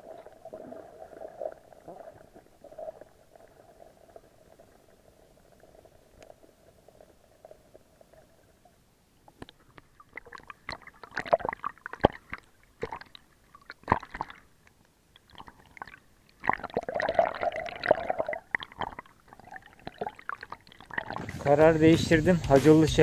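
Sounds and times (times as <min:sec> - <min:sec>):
water splashing and bubbling: 0:00.0 - 0:21.7.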